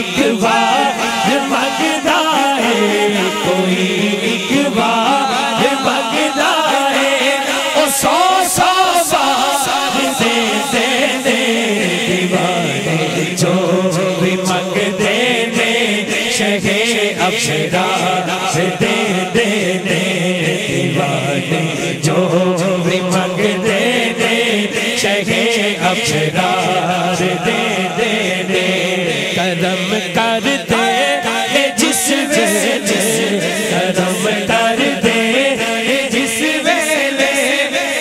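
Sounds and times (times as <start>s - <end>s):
man singing devotional chant: 0.0s - 38.0s.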